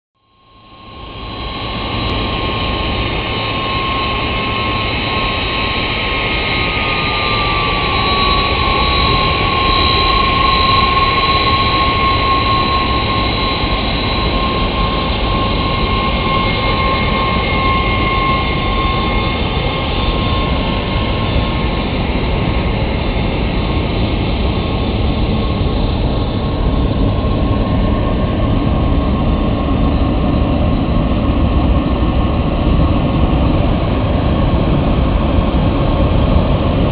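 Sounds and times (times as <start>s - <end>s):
jet engines whining and rumbling: 0.2s - 36.9s.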